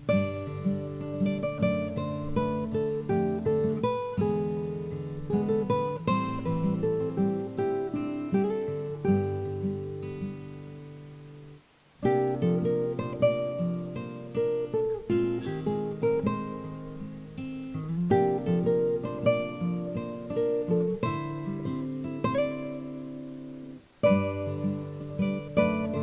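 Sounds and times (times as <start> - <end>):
acoustic guitar picking melody: 0.0 - 26.0.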